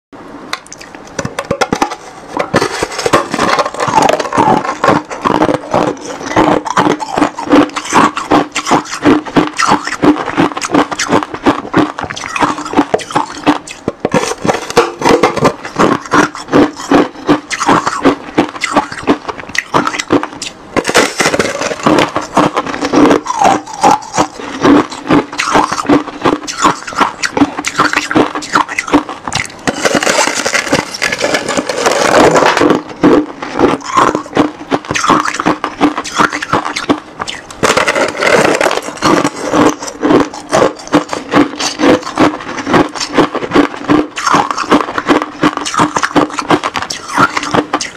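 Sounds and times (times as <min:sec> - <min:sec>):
chewing crunchy ice: 0:00.7 - 0:47.9.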